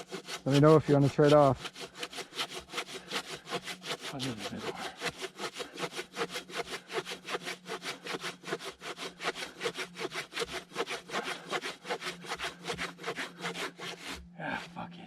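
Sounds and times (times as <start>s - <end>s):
hand saw cutting tree trunk: 0.0s - 14.9s.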